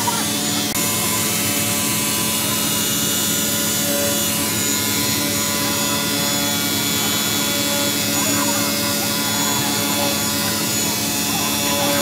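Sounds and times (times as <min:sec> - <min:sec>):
pressure washer pump humming: 0:00.0 - 0:12.0.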